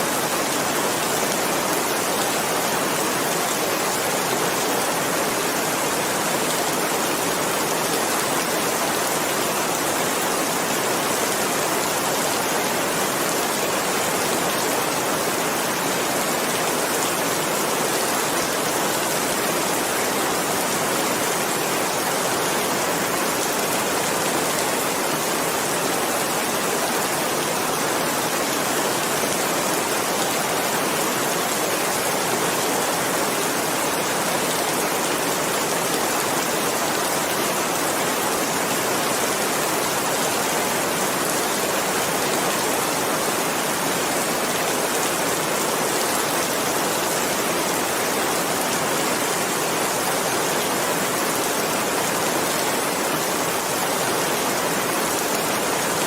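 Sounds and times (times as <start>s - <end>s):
steady dense rain hiss: 0.0s - 56.0s.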